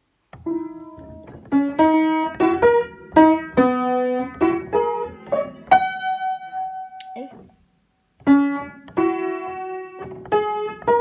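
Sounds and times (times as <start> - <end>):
slow piano tune: 0.0 - 11.0.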